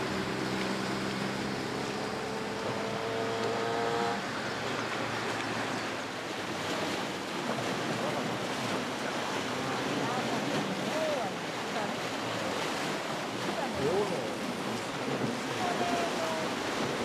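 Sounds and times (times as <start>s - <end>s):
sea surf: 0.0s - 17.0s.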